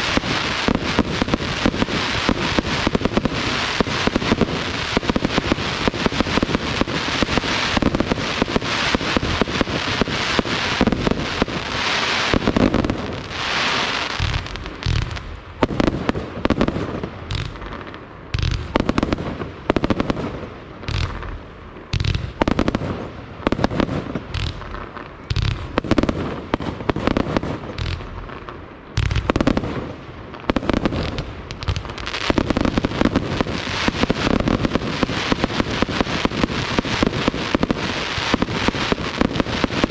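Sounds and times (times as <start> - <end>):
deep fireworks booms: 0.0 - 39.9
fireworks bangs and crackling: 0.0 - 39.9.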